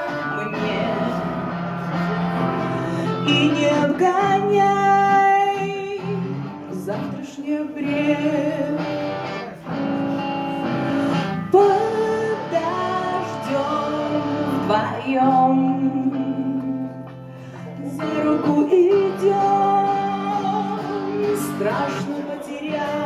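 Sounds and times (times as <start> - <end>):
electric guitar: 0.0 - 23.0
woman singing into a microphone: 0.0 - 23.0.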